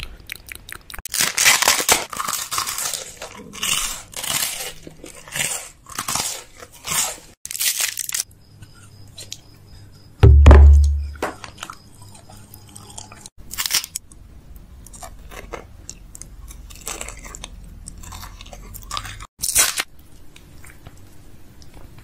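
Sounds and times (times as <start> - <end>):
chewing and crunching sweets: 0.0 - 10.0, 11.4 - 22.0.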